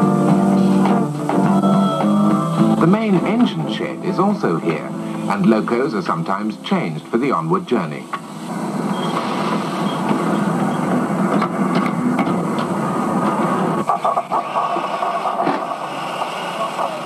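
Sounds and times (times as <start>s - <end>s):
steam locomotives working: 0.0s - 17.0s.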